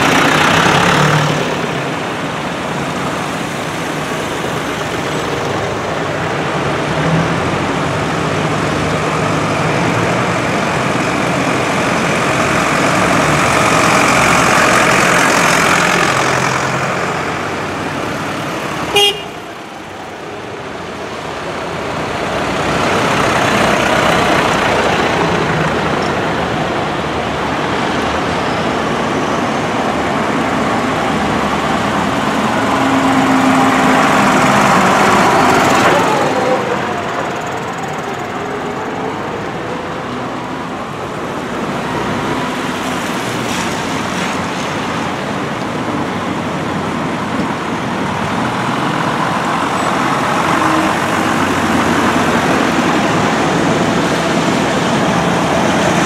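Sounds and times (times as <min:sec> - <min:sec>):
tractor diesel engines passing: 0:00.0 - 0:56.0
tyres hissing on wet road: 0:00.0 - 0:56.0.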